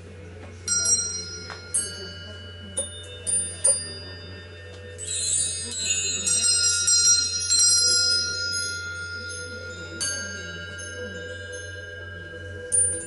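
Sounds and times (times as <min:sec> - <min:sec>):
metal wind chimes ringing: 0:00.0 - 0:13.0.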